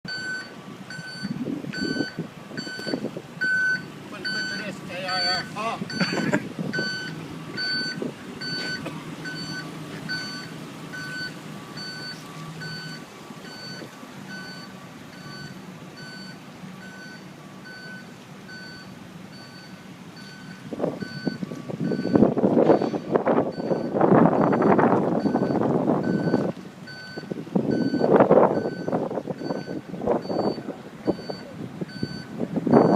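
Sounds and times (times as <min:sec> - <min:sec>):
truck engine humming: 0:00.0 - 0:32.9
truck reversing alarm beeping: 0:00.0 - 0:32.9.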